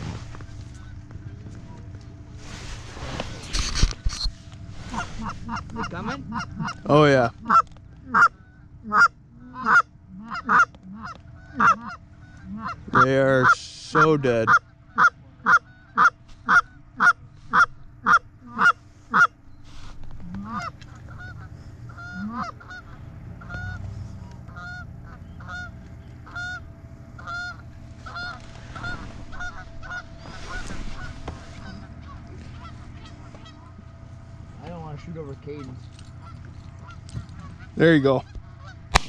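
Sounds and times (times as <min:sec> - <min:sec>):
geese clucking: 0:04.1 - 0:39.0
geese honking: 0:04.8 - 0:39.0.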